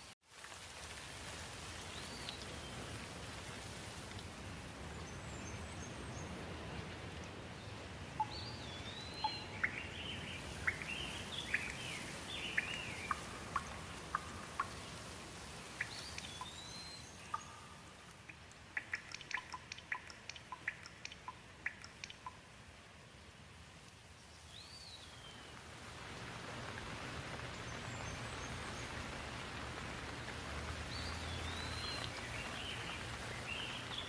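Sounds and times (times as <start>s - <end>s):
steady rain: 0.0s - 34.0s
water drips ticking: 0.3s - 5.2s, 6.4s - 7.4s, 8.1s - 22.8s, 25.5s - 34.0s.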